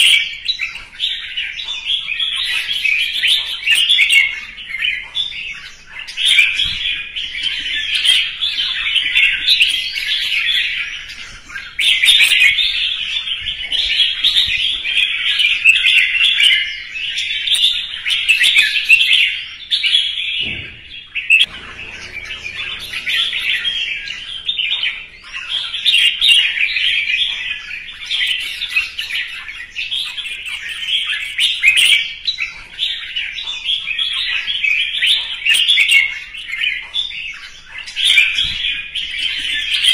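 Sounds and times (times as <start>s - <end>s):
bird singing rapid phrases: 0.0s - 39.9s.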